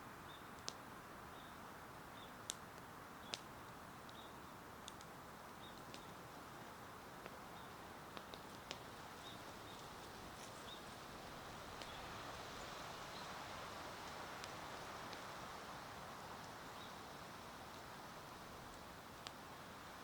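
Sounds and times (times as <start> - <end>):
wood fire crackling: 2.4 - 12.4, 13.0 - 20.0.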